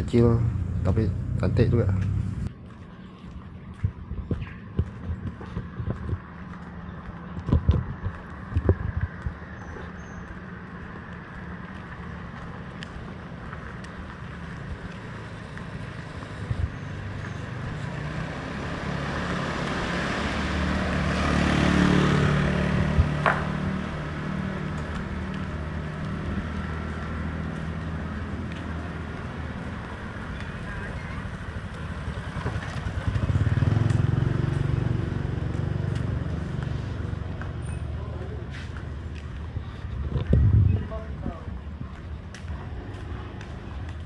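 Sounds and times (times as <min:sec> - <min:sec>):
vehicle passing: 0:00.0 - 0:02.8, 0:05.4 - 0:44.0.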